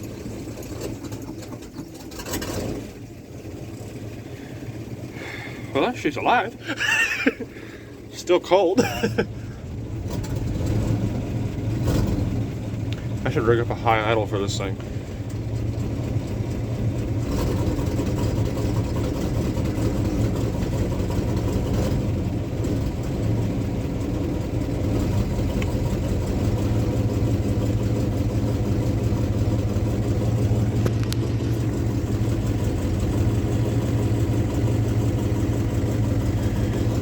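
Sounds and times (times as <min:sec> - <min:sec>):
pickup engine idling: 0:00.0 - 0:37.0.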